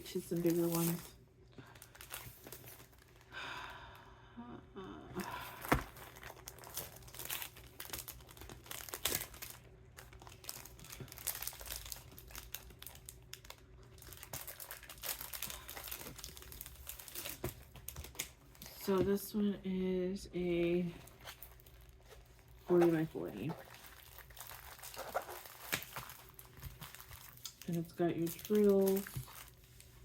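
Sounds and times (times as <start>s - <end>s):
plastic packaging crinkling: 0.0s - 3.3s, 5.4s - 18.9s, 21.0s - 30.0s.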